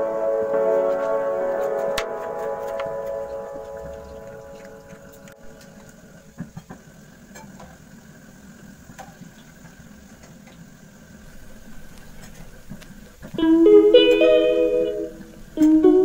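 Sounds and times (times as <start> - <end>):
low kitchen room rumble: 0.0 - 16.0.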